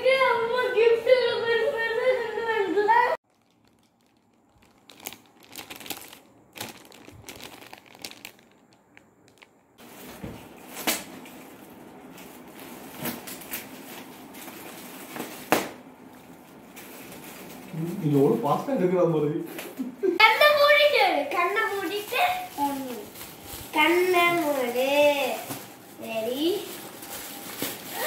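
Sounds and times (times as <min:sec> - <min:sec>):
plastic packaging crinkling: 0:03.2 - 0:18.6, 0:20.4 - 0:28.0.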